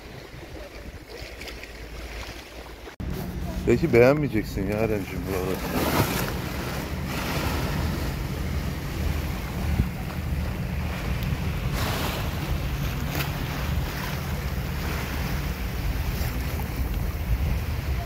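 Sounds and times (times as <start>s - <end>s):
wind buffeting microphone: 3.0s - 18.0s.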